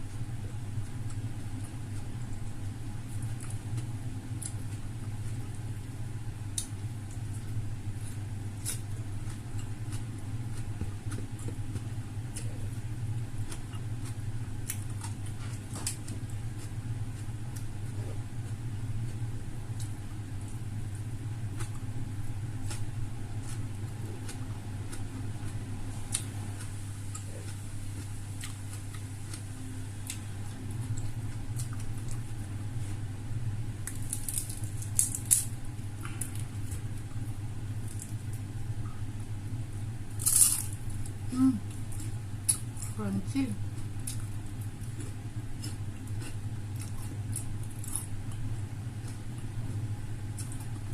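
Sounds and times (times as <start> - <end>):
chewing fried chicken: 0.0 - 50.9
steady low hum: 0.0 - 50.9.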